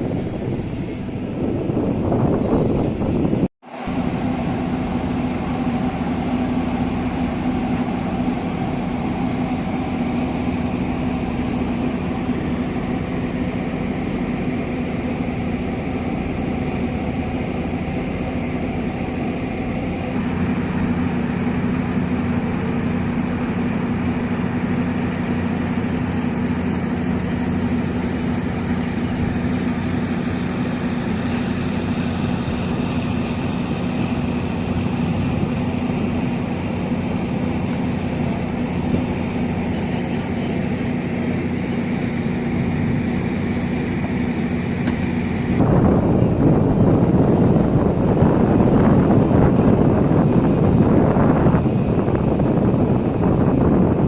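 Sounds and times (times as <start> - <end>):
large engine running steadily: 0.0 - 54.0.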